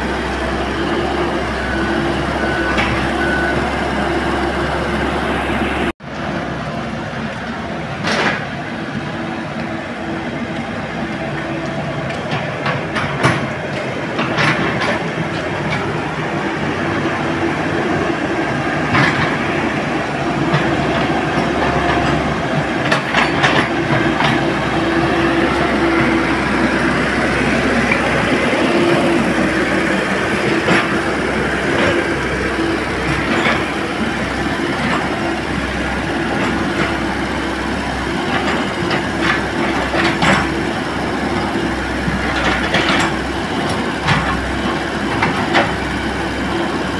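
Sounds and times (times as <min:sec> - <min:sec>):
excavator diesel engine humming: 0:00.0 - 0:46.9.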